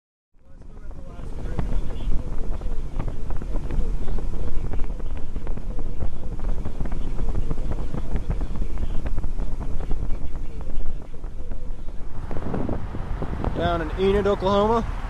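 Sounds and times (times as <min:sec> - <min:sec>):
car road and wind rumble: 0:00.4 - 0:15.0
wind buffeting on microphone: 0:00.4 - 0:15.0.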